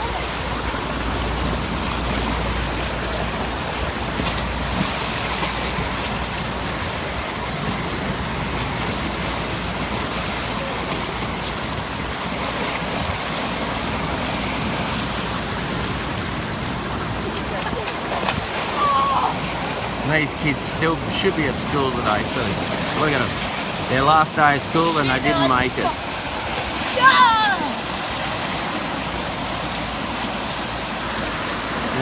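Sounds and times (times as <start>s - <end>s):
water rushing through channel: 0.0s - 32.0s.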